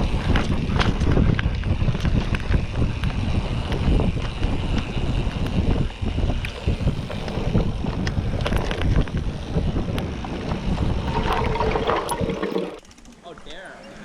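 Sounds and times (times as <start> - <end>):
wind buffeting microphone: 0.0 - 12.4
mountain bike rolling on dirt: 0.0 - 13.8.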